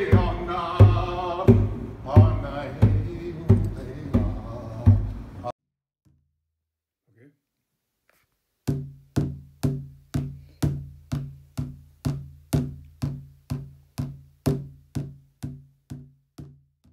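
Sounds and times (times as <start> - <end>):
drum beating: 0.0 - 5.5, 8.7 - 16.9.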